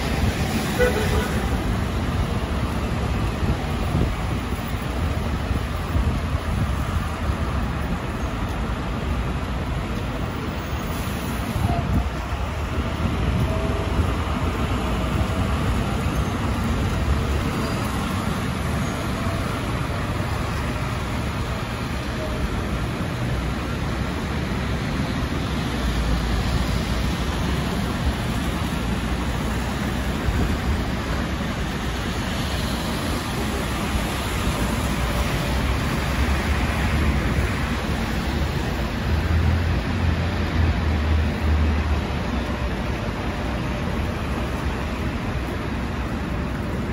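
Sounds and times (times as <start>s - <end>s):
tyre hiss on wet road: 0.0s - 13.3s, 14.2s - 46.9s
vehicle engines rumbling: 0.0s - 46.9s.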